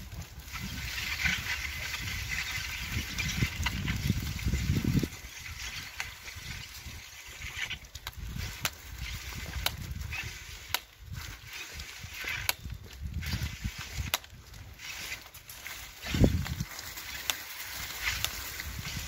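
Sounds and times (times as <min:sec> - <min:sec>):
footsteps squelching through slush: 0:00.0 - 0:19.0.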